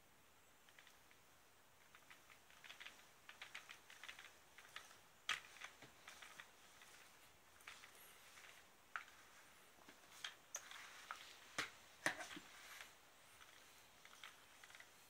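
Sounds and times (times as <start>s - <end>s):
claws scratching on plastic: 1.8s - 15.0s.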